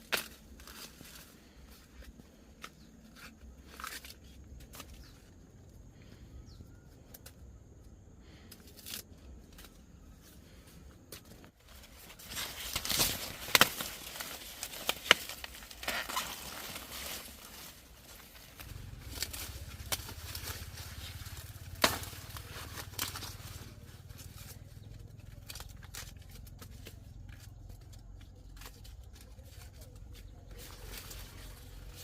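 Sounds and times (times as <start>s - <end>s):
rustling handling noise: 0.0s - 32.0s.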